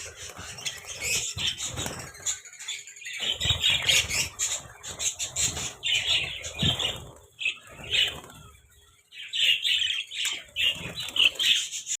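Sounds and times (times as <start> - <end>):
budgerigars chattering and chirping: 0.0 - 12.0.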